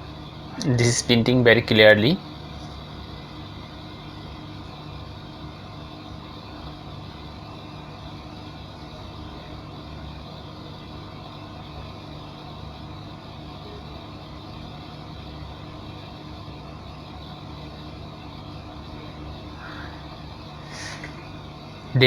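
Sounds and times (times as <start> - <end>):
printer humming: 0.0 - 22.0.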